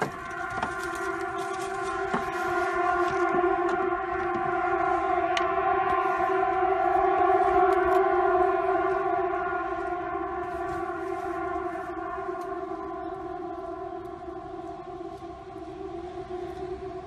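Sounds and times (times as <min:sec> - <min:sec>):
deep horn-like drone: 0:00.0 - 0:17.0.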